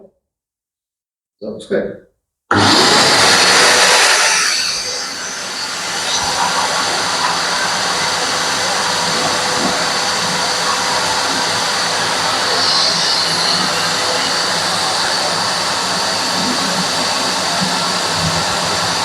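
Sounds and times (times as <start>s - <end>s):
vacuum cleaner running: 2.5s - 19.0s.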